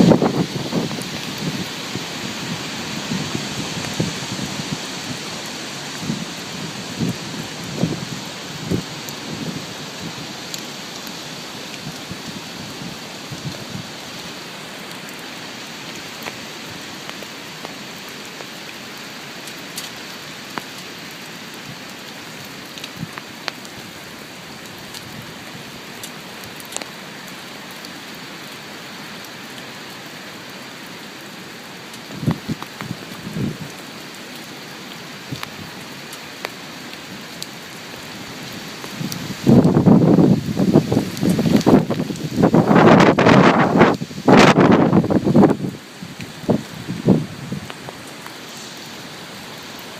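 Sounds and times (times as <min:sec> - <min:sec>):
heavy rain falling: 0:00.0 - 0:49.9
raindrops ticking: 0:00.1 - 0:49.9.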